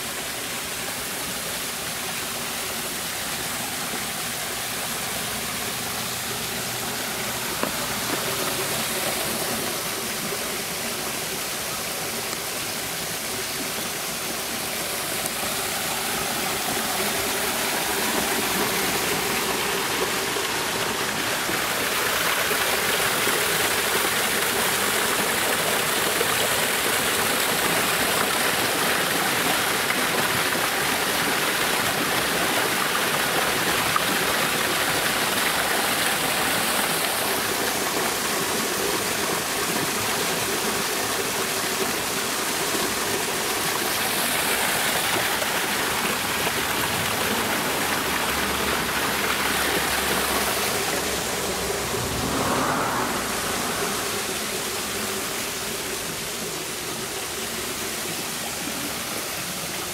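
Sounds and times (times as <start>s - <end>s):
waterfall running: 0.0s - 59.9s.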